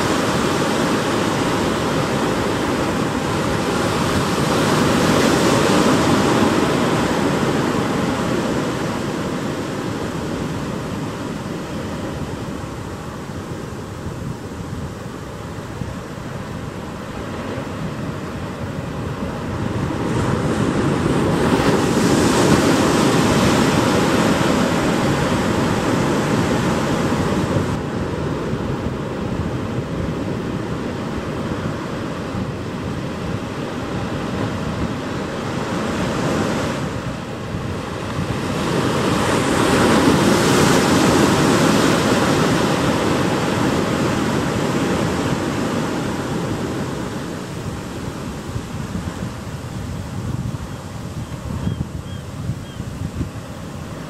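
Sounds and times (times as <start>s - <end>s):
big waves crashing: 0.0s - 54.0s
surf washing over rocks: 0.0s - 54.0s.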